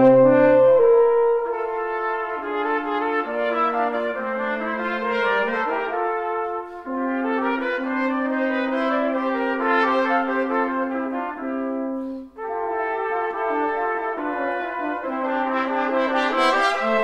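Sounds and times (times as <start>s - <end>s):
brass quintet playing: 0.0s - 17.0s.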